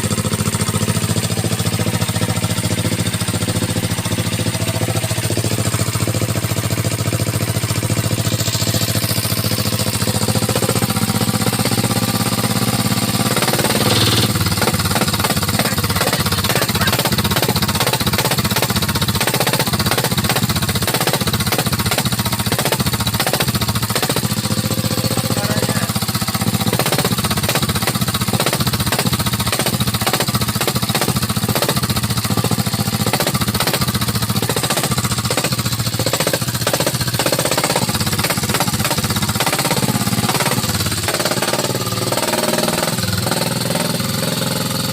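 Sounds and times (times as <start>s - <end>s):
diesel engine chugging: 0.0s - 44.9s.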